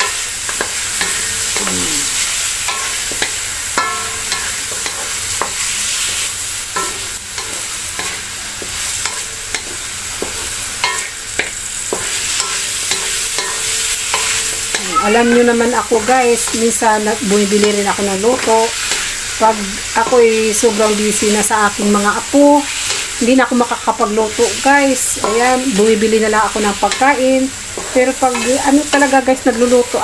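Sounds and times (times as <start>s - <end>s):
chicken sizzling in oil: 0.0s - 30.0s
spatula scraping wok: 0.0s - 30.0s.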